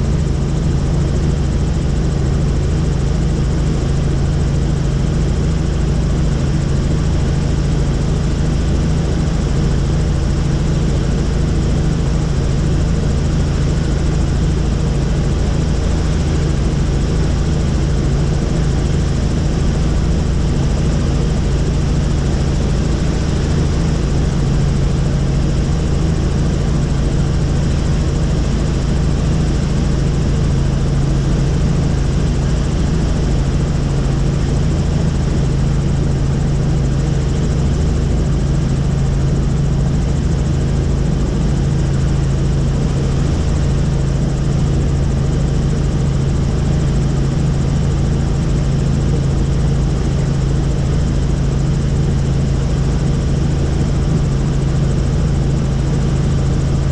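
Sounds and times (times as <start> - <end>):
helicopter engine and rotor: 0.0 - 56.9.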